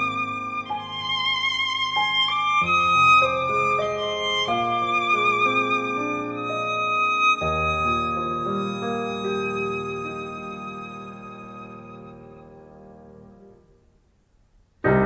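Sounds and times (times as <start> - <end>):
violin melody over loudspeakers: 0.0 - 12.4.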